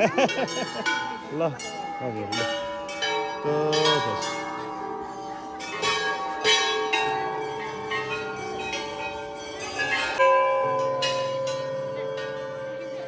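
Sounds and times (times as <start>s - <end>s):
metal bells ringing: 0.0s - 13.0s.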